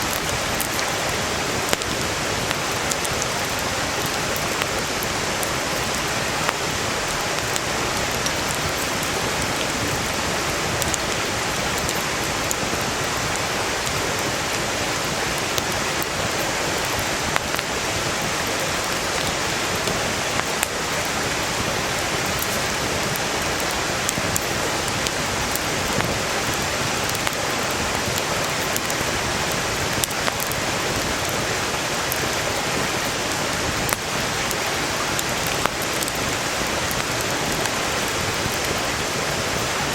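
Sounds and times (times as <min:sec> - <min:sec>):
campfire crackling and popping: 0:00.0 - 0:39.9
stream rushing: 0:00.0 - 0:39.9.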